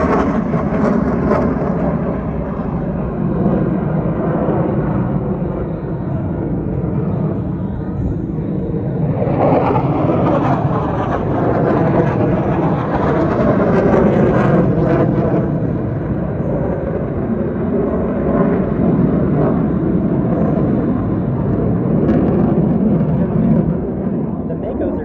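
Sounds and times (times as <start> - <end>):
jet engine roar overhead: 0.0 - 25.0.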